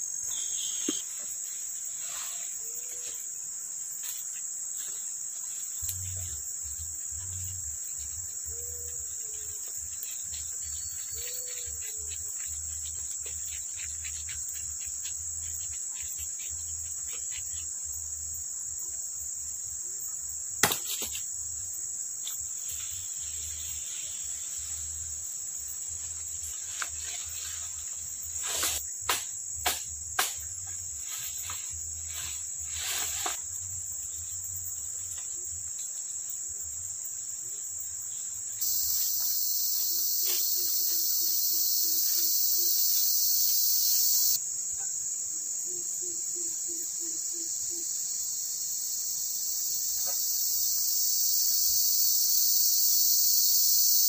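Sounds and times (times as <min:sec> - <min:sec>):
insect chorus: 0:00.0 - 0:54.0.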